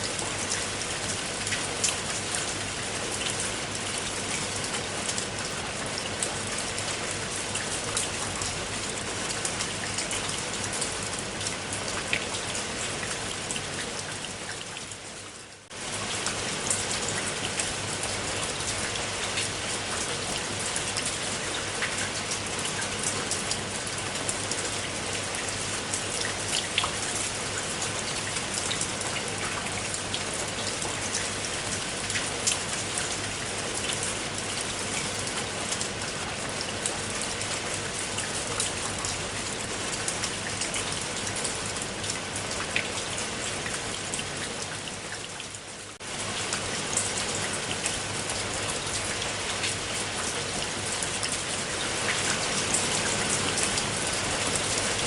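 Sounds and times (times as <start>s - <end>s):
rain drops ticking: 0.0s - 55.0s.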